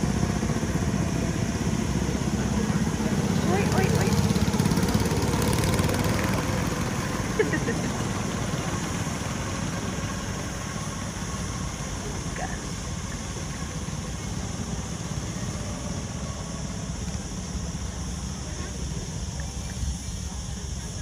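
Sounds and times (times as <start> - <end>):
go-kart engines droning: 0.0 - 21.0.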